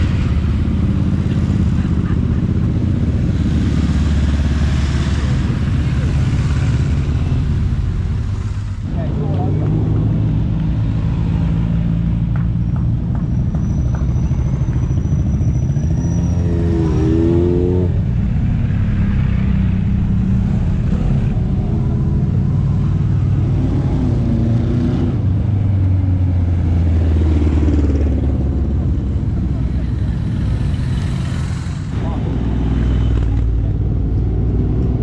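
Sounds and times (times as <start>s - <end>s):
motorcycle engines at low speed: 0.0s - 35.0s.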